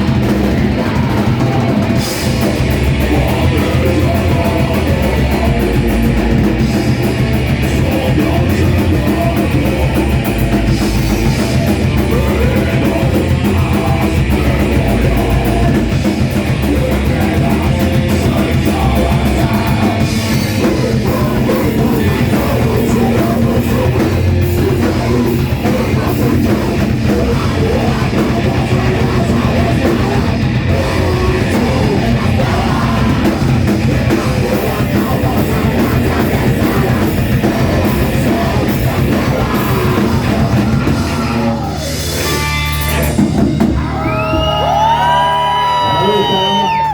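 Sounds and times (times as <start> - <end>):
drum kit: 0.0 - 46.9
rock band playing live: 0.0 - 46.9.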